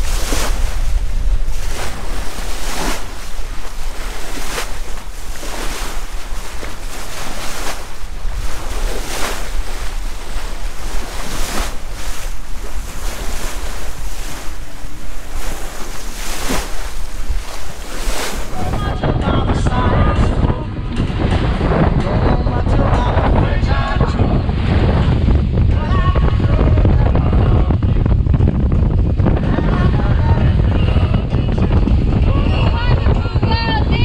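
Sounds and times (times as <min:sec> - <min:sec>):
strong wind buffeting microphone: 0:00.0 - 0:34.0
water splashing along boat hull: 0:00.0 - 0:34.0.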